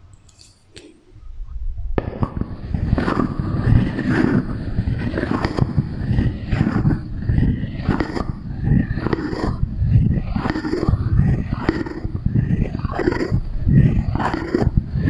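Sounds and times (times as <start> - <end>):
scraping and clattering with echo: 0.2 - 15.0.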